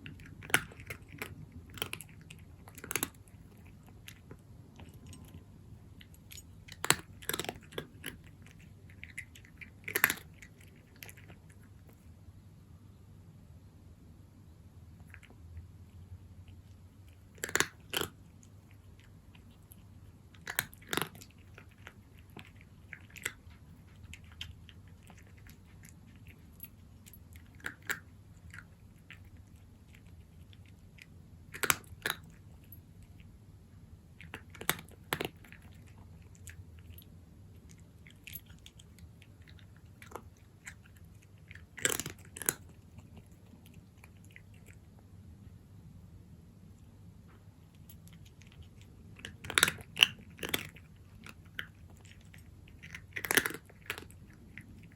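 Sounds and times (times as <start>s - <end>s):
cat crunching dry kibble: 0.0s - 12.2s, 14.9s - 45.1s, 47.5s - 54.9s
low steady hum: 0.0s - 54.9s.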